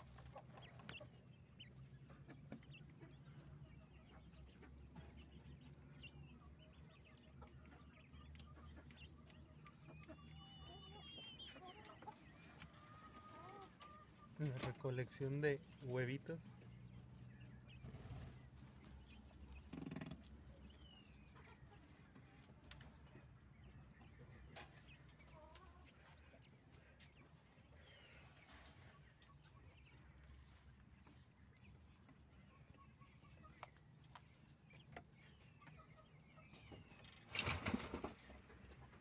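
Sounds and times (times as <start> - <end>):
poultry chirping: 0.0 - 39.0.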